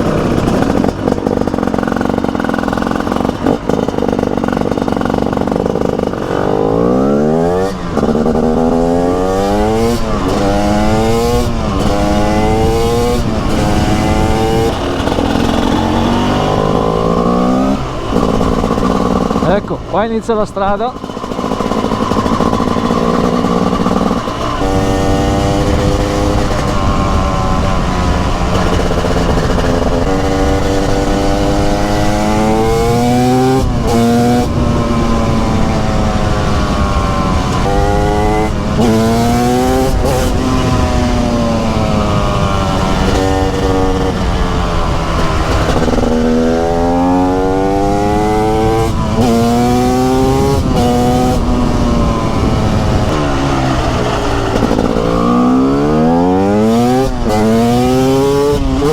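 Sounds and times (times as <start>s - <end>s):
two-stroke motorcycle engine revving: 0.0s - 58.9s.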